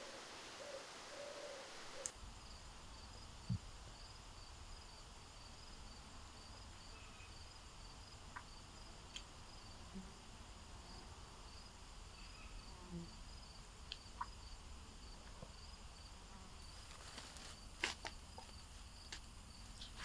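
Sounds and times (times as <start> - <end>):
rapid insect chirping: 0.0 - 20.0.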